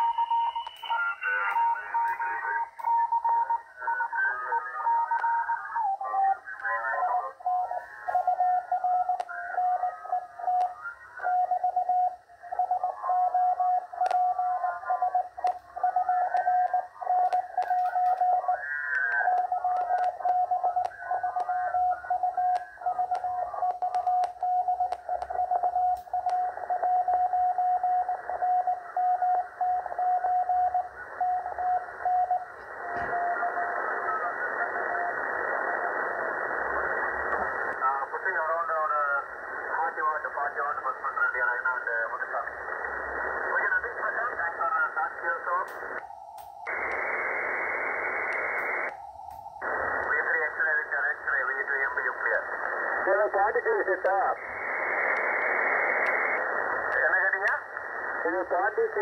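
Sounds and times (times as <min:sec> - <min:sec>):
radio band static: 0:00.0 - 0:59.0.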